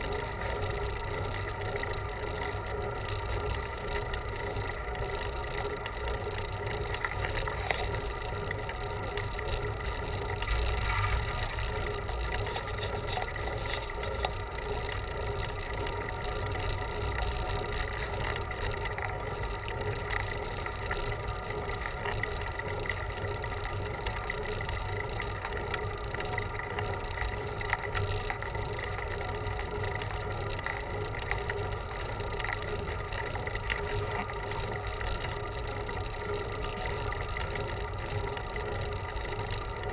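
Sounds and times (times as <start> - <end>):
bicycle road noise: 0.0 - 39.9.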